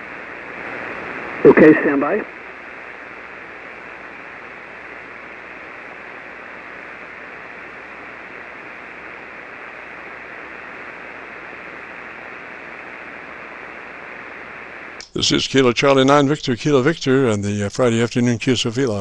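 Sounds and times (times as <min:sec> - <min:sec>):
muffled radio static hiss: 0:00.0 - 0:19.0.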